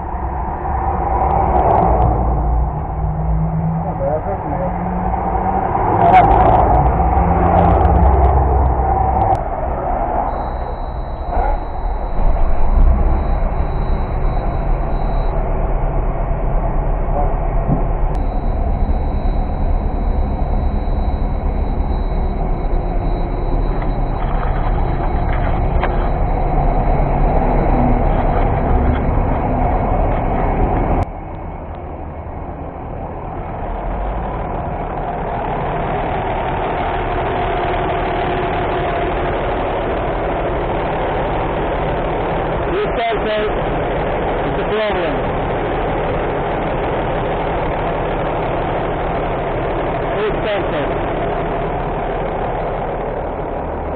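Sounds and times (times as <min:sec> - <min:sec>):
heavy vehicle engine rumbling: 0:00.0 - 0:53.9.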